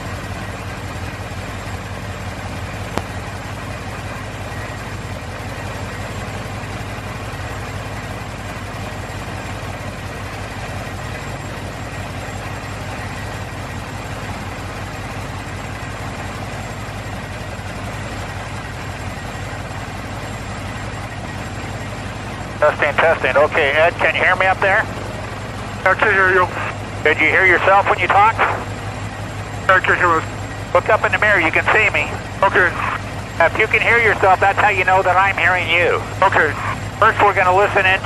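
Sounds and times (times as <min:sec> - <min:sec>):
biplane engine idling: 0:00.0 - 0:38.0.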